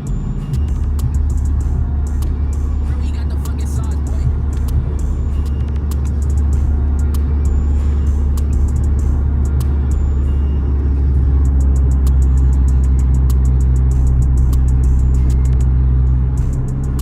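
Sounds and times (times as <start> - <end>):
car engine and road noise: 0.0 - 17.0
music playing: 0.0 - 17.0.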